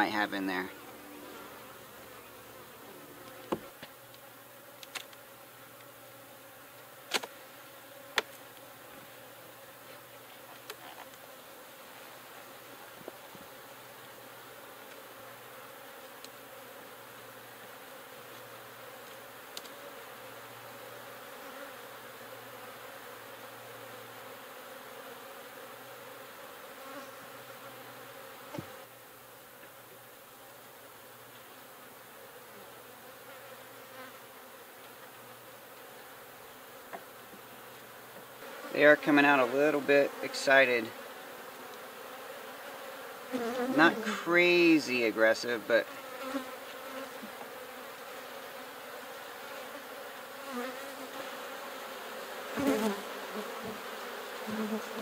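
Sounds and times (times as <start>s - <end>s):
honeybees buzzing: 0.0s - 55.0s.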